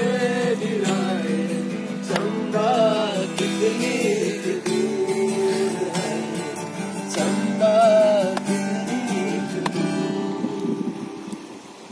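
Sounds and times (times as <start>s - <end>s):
acoustic guitar strumming: 0.0s - 11.8s.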